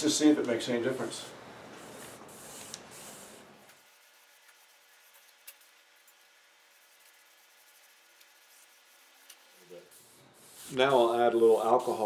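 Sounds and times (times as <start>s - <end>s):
cloth rag rubbing wood: 1.8s - 12.0s.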